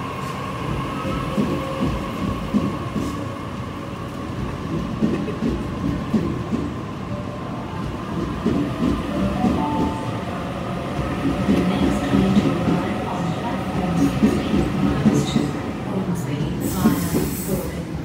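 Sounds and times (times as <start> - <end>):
train wheels rumbling and clattering: 0.0 - 18.0.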